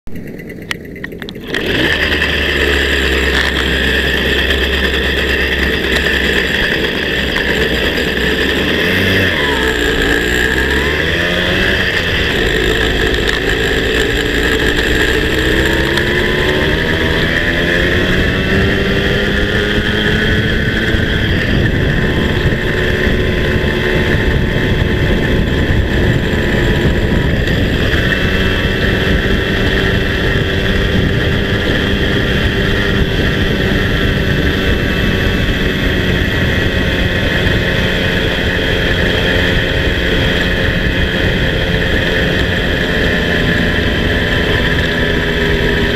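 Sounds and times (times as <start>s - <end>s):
two-stroke moped engine: 0.0s - 45.9s.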